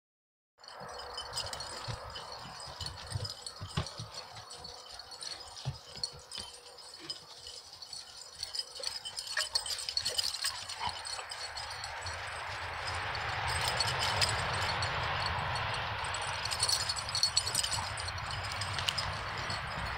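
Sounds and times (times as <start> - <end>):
light metallic jingling: 0.6 - 19.9.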